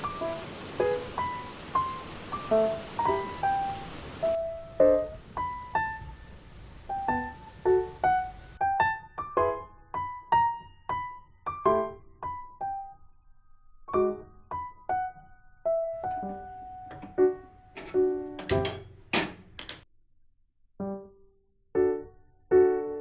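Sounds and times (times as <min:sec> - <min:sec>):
gentle piano melody: 0:00.0 - 0:19.1, 0:20.8 - 0:23.0.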